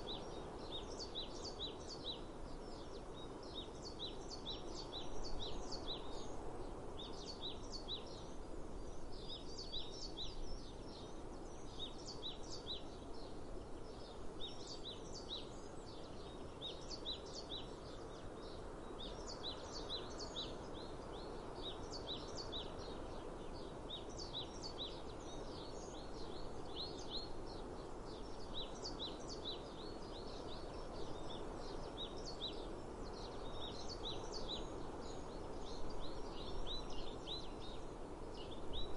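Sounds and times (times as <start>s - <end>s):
outdoor background hiss: 0.0s - 38.9s
small birds chirping: 0.0s - 38.9s.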